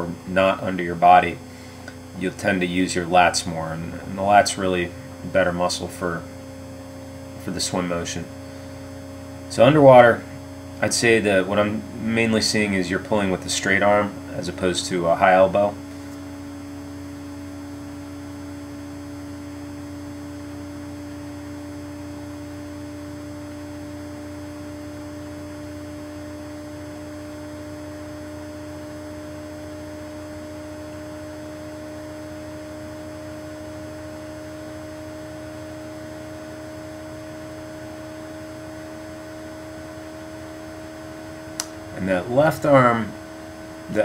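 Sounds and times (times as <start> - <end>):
electrical hum: 0.0 - 44.0.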